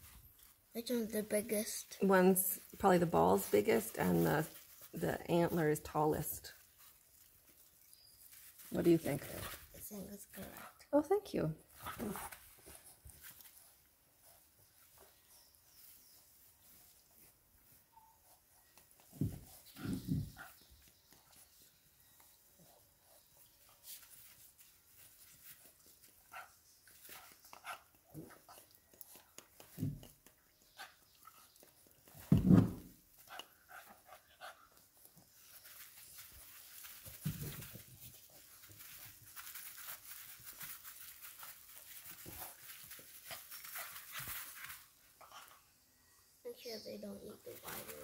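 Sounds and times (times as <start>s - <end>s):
puppies scuffling and snuffling: 0.0s - 45.8s, 46.5s - 48.0s.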